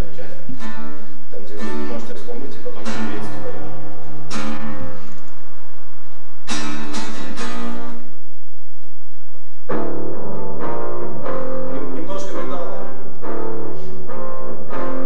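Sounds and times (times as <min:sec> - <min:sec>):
acoustic guitar strumming chords: 0:00.0 - 0:08.1, 0:09.7 - 0:15.0.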